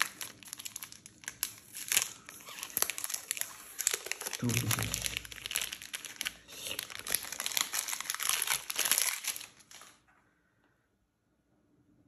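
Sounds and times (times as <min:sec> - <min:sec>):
plastic wrapper crinkling: 0:00.0 - 0:10.1.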